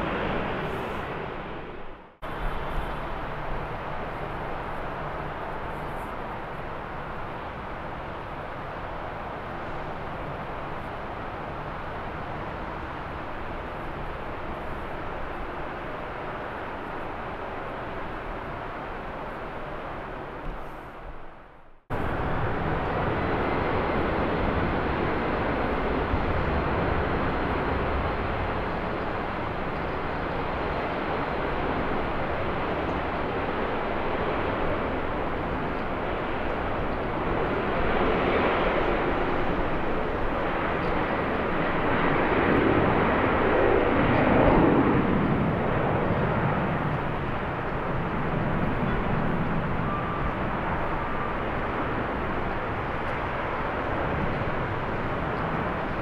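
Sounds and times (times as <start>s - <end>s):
jet airliner engines passing: 0.0s - 56.0s
wind rumble on microphone: 0.0s - 56.0s.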